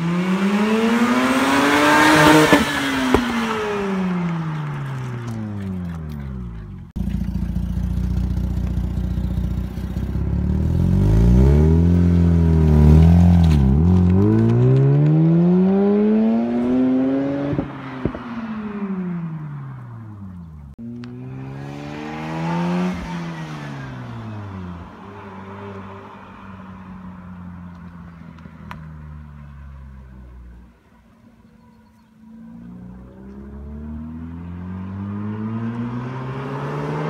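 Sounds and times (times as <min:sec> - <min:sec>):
rotary engine and exhaust revving: 0:00.0 - 0:31.0, 0:31.6 - 0:37.0.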